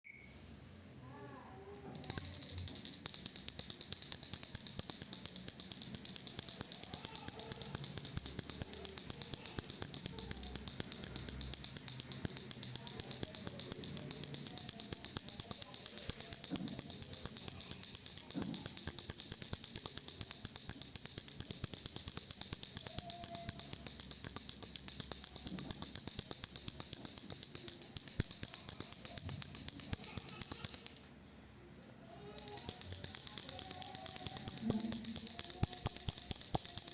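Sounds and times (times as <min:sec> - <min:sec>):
hand bell ringing rapidly: 0:01.7 - 0:31.2, 0:31.8 - 0:36.9.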